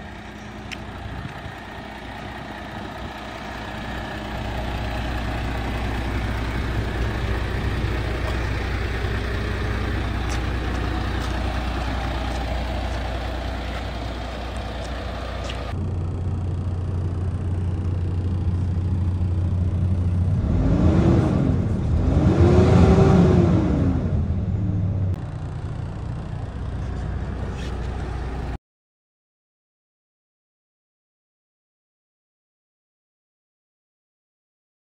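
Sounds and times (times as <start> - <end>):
diesel truck engine: 0.0 - 28.6.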